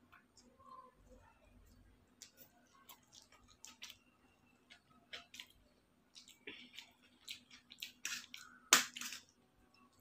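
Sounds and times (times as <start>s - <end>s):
person chewing noodles: 1.6s - 10.0s.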